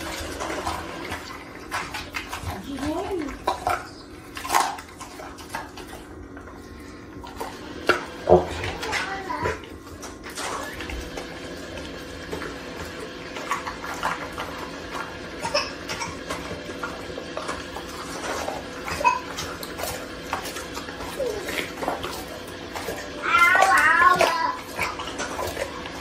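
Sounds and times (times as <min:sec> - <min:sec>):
dog chewing and licking meat: 0:00.0 - 0:26.0.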